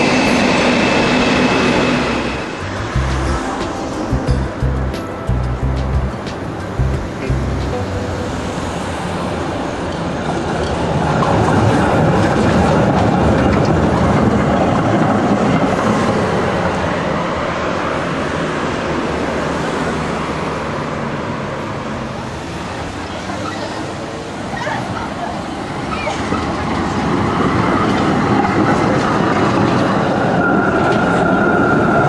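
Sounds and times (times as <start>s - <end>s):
tram wheels on rails: 0.0s - 32.0s.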